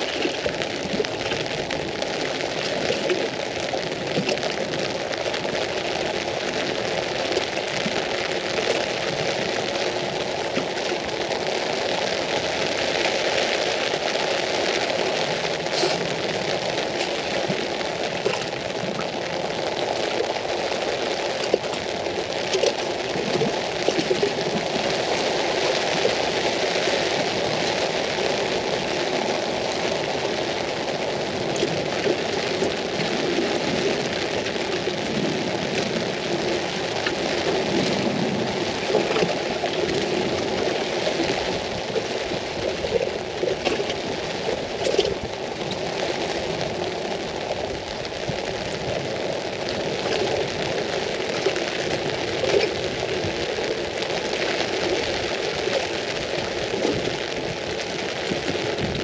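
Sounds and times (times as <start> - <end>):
rain on an umbrella: 0.0 - 59.0.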